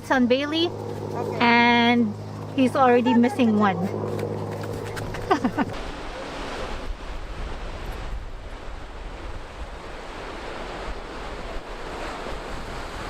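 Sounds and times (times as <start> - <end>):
ocean surf: 0.0 - 13.0
wind on microphone: 0.0 - 13.0.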